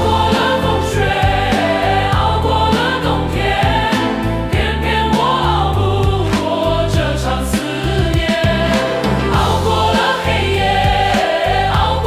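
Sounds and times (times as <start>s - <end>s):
bass and steady beat: 0.0s - 12.0s
choir singing pop ballad: 0.0s - 12.0s.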